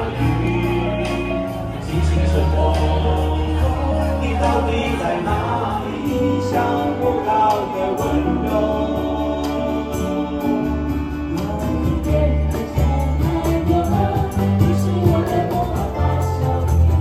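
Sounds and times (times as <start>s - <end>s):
song with singing over a beat: 0.0s - 17.0s.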